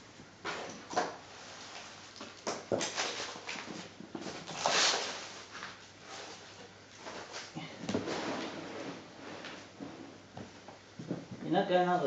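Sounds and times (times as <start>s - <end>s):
objects rustling and scraping: 0.1s - 11.4s.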